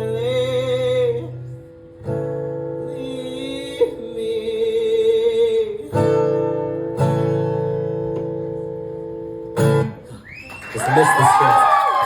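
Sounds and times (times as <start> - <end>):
strummed acoustic guitar: 0.0 - 10.2.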